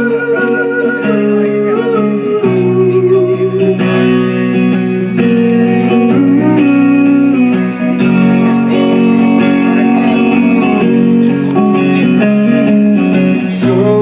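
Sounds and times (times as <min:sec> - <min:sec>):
live band with guitar: 0:00.0 - 0:14.0.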